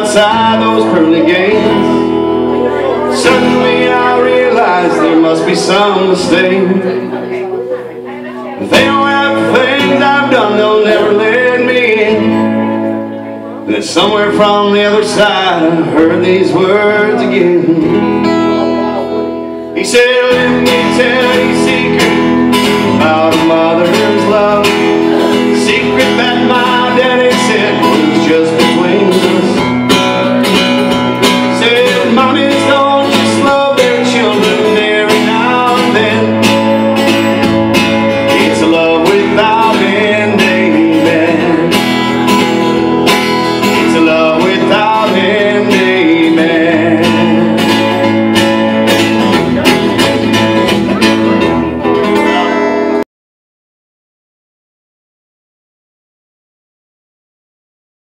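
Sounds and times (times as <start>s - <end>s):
country music with acoustic guitar: 0.0s - 53.0s.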